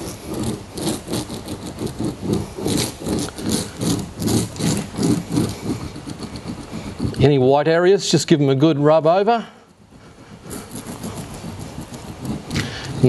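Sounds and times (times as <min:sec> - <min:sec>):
roller rubbing over resin mat: 0:00.0 - 0:13.0.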